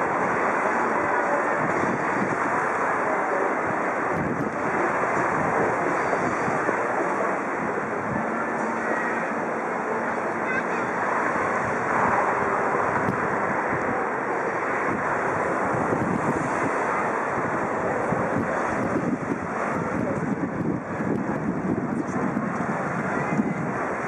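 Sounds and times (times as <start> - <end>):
choppy river water: 0.0 - 24.0
wind buffeting microphone: 0.0 - 24.0.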